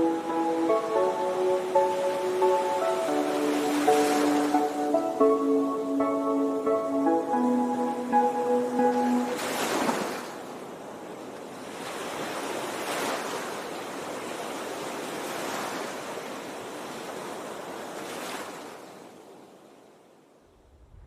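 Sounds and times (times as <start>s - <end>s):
water rushing: 0.0s - 18.4s.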